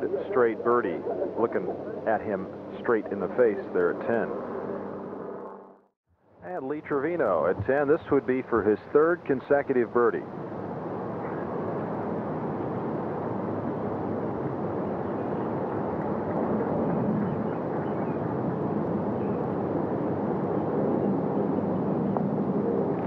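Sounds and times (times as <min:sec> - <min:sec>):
outdoor low rumble and hiss: 0:00.0 - 0:23.0.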